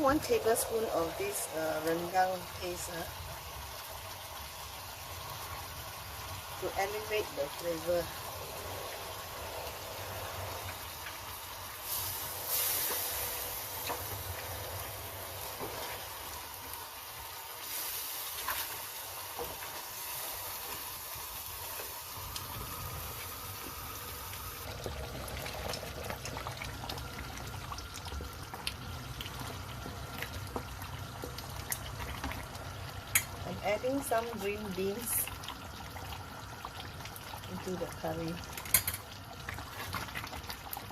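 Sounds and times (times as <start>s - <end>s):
curry sizzling in a pot: 0.0s - 40.9s.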